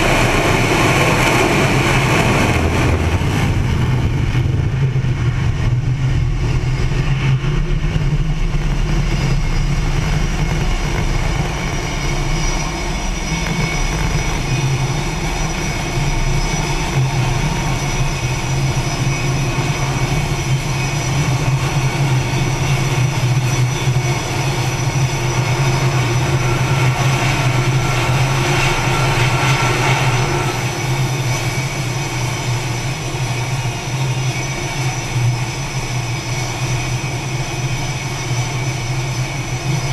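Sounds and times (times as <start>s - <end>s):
jet aircraft engines roaring: 0.0s - 39.9s.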